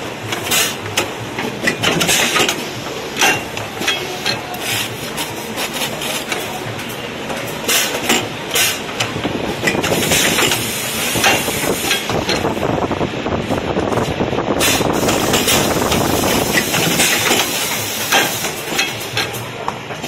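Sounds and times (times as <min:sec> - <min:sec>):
mechanical clatter: 0:00.0 - 0:20.0.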